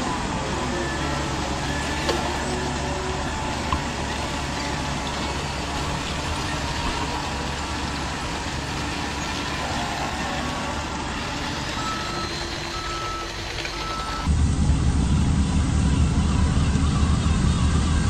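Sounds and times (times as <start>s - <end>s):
truck reversing beeper: 0.0s - 14.5s
model trucks running: 0.0s - 18.0s.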